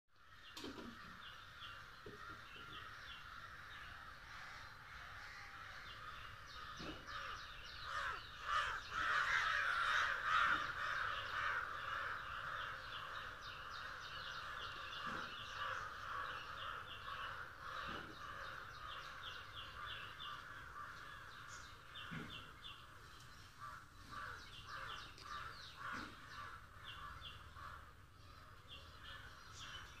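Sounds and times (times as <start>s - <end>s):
dense bird chorus: 0.2s - 30.0s.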